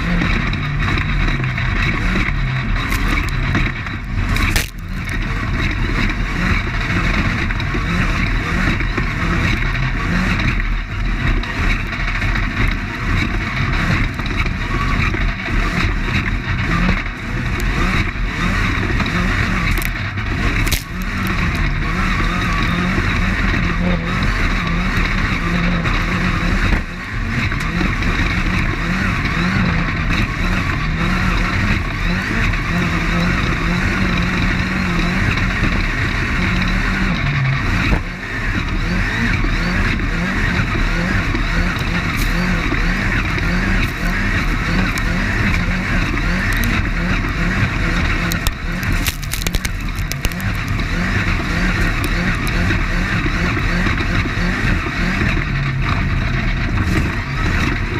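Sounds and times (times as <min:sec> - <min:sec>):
race car engine pulling hard: 0:00.0 - 0:57.9.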